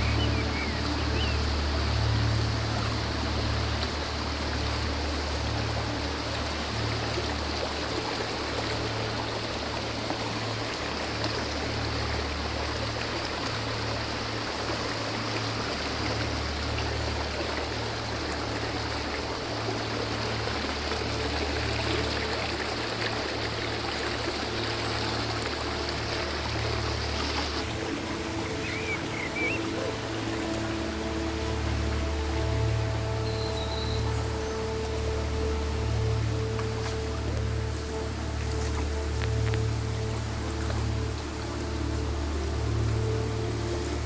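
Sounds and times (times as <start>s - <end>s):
river water over stones: 0.0s - 44.0s.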